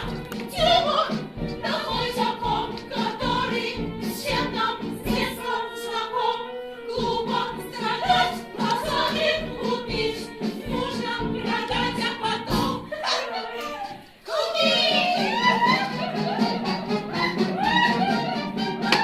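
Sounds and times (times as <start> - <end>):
instrumental accompaniment with beat: 0.0 - 5.6, 7.0 - 12.8, 15.0 - 19.0
group of voices singing: 0.0 - 19.0.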